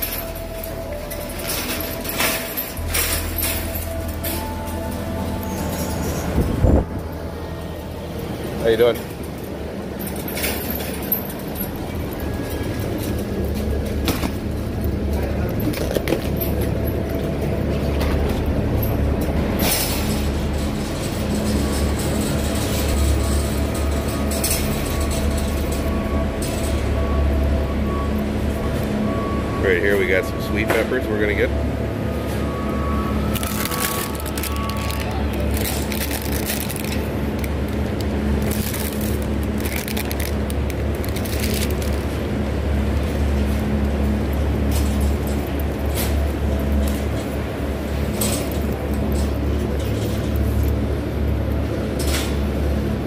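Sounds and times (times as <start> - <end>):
cart wheels rumbling on concrete: 0.0 - 53.0
steady low hum: 0.0 - 53.0.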